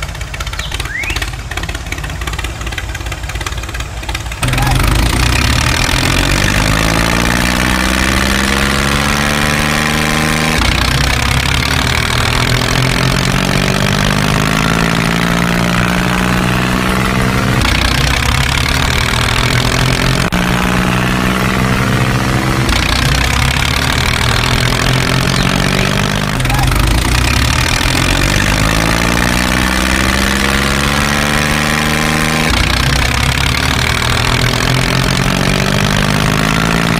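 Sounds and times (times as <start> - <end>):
tractor diesel engine revving: 0.0 - 36.9.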